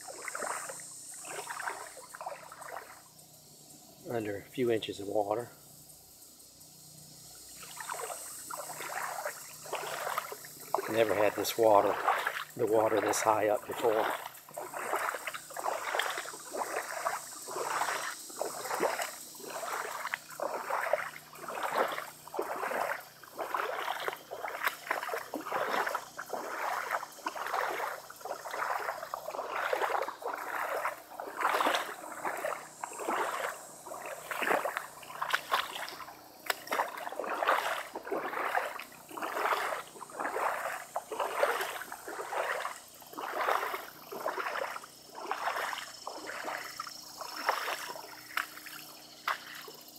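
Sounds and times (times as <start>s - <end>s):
footsteps wading through water: 0.0s - 3.2s, 7.4s - 49.9s.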